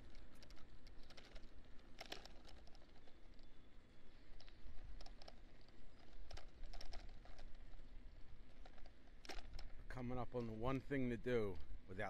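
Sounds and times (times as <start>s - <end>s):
bicycle basket rattling: 0.0s - 12.0s.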